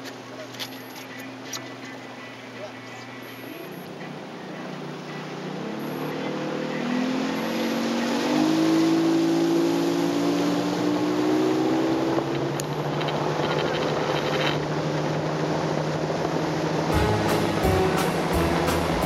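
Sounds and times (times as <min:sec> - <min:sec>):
outboard motor running: 0:00.0 - 0:19.0
water rushing along hull: 0:00.0 - 0:19.0.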